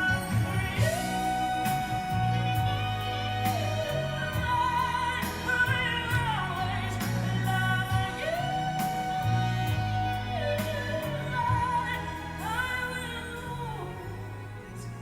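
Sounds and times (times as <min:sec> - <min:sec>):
person singing long notes: 0:00.0 - 0:15.0
pop ballad backing track: 0:00.0 - 0:15.0.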